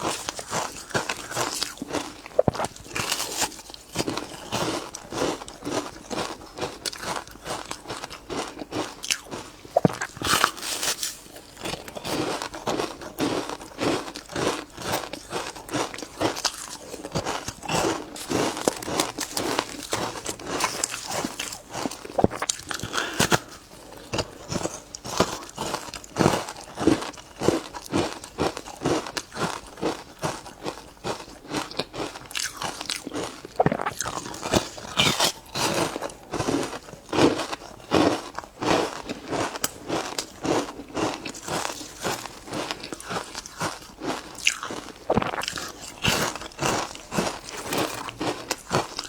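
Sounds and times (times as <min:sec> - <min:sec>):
ice crunching between teeth: 0:00.0 - 0:49.0.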